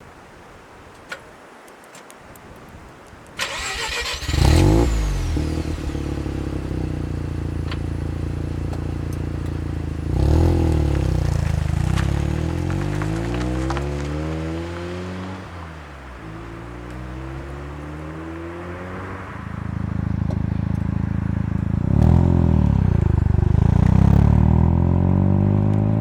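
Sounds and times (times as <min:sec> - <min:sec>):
engine revving: 0:03.4 - 0:15.5, 0:16.6 - 0:26.0.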